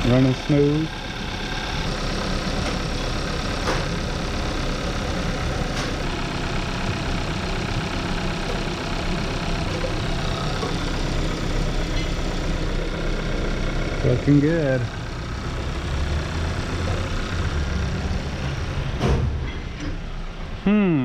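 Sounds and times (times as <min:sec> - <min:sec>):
car engine idling: 0:00.0 - 0:20.7.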